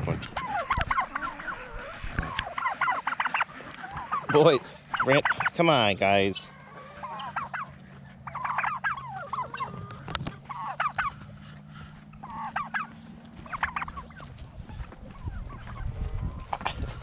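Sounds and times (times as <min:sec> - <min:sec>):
poultry flock calling: 0:00.0 - 0:17.0
steady low hum: 0:00.0 - 0:17.0.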